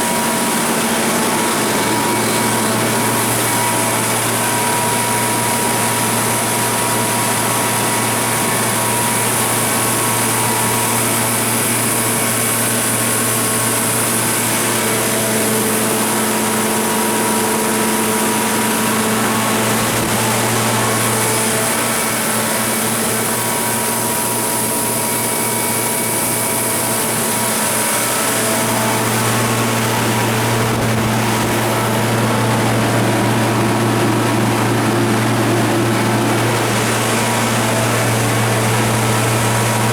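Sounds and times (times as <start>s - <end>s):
generator engine droning: 0.0s - 39.9s.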